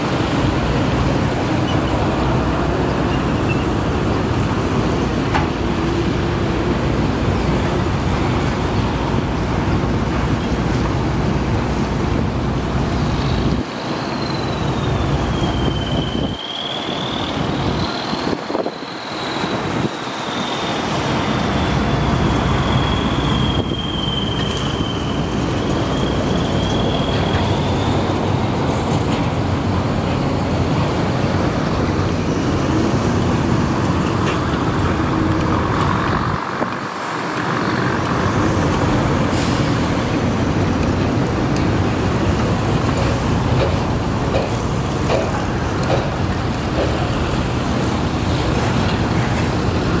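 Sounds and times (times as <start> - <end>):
excavator diesel engine: 0.0 - 50.0
road traffic: 0.0 - 50.0.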